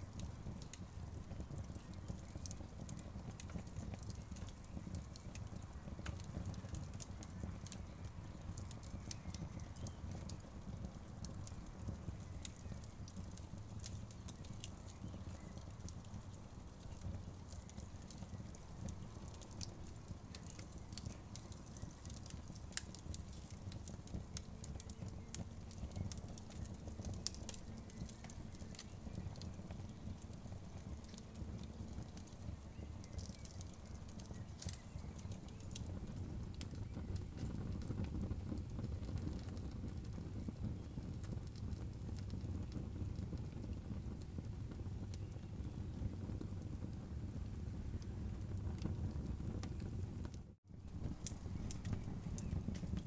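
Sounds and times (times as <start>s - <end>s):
logs crackling and popping: 0.0s - 53.0s.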